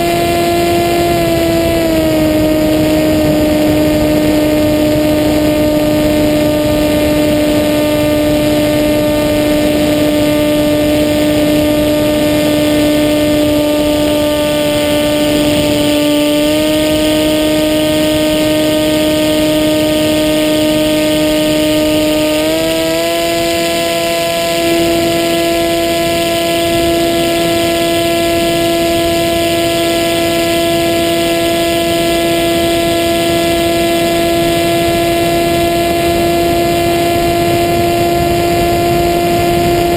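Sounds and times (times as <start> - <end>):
electric motor and propeller whine: 0.0 - 39.9
rushing wind: 0.0 - 39.9.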